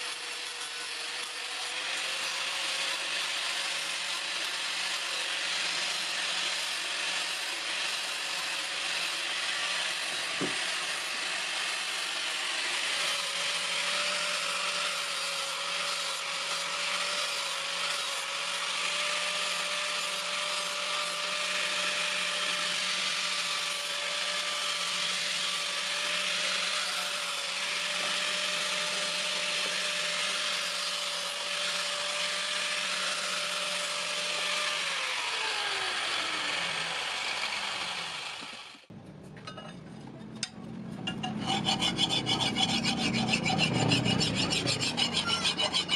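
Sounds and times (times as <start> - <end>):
electric grinder grinding steel: 0.0 - 38.9, 40.4 - 45.9.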